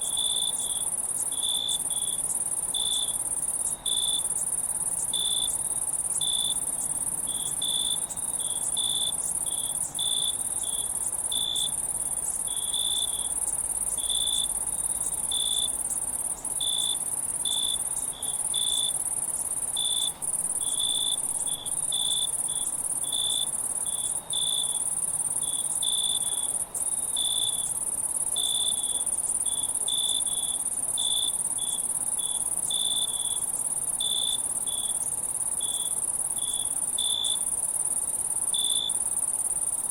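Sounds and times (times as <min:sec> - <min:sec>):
insect chirps: 0:00.0 - 0:39.9.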